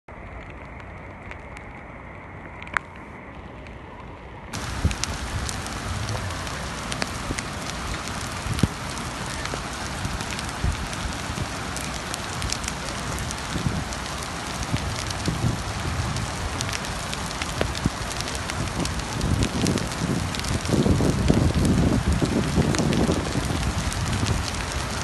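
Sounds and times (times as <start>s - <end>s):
raindrops ticking on hard surfaces: 0.1s - 25.0s
heavy rain pouring: 4.5s - 25.0s.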